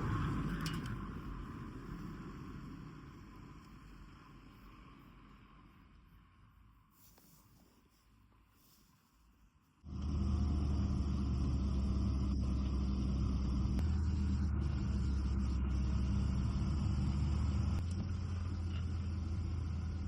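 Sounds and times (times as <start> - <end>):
vehicle engine rumbling: 0.0 - 6.9, 9.8 - 20.0.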